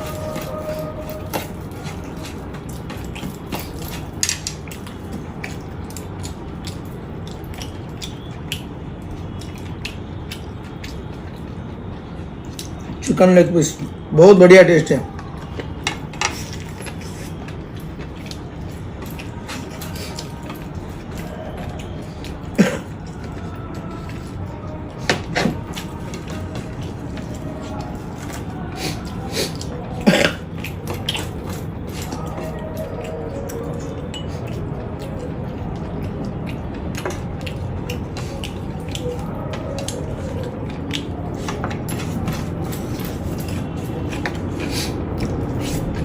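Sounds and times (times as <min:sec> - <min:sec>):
person chewing: 0:00.0 - 0:13.0, 0:15.1 - 0:46.0
steady background hum: 0:00.0 - 0:46.0.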